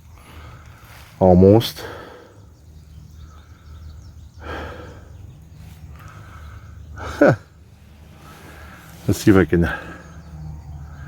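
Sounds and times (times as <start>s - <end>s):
man breathing heavily: 0.0s - 11.0s.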